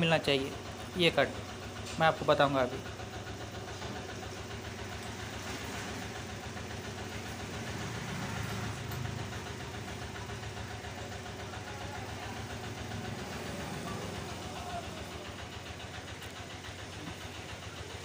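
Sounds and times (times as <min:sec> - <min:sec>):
engine running with fast pulse: 0:00.0 - 0:18.0.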